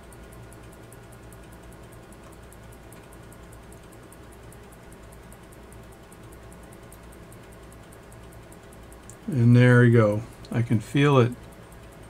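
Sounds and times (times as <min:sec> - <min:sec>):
fast high ticks: 0:00.0 - 0:12.0.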